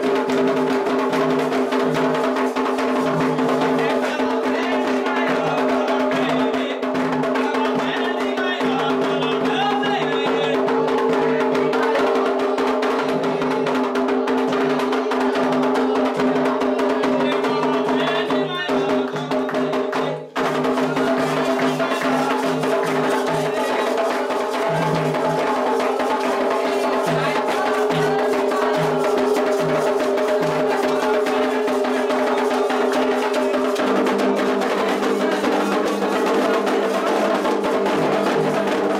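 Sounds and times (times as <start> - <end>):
hand drums playing fast rhythm: 0.0 - 38.9
lead drum playing: 0.0 - 38.9.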